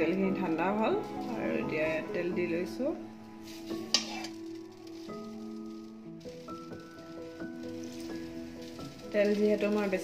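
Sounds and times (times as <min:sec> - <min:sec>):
soft melody of held notes: 0:00.0 - 0:10.0.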